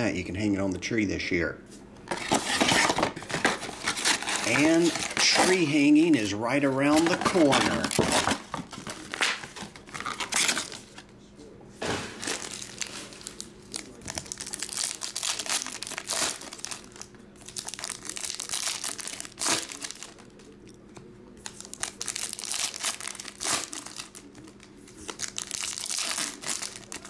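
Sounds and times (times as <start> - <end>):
foil wrappers crinkling and tearing: 2.1 - 11.0, 11.9 - 20.6, 21.4 - 27.0.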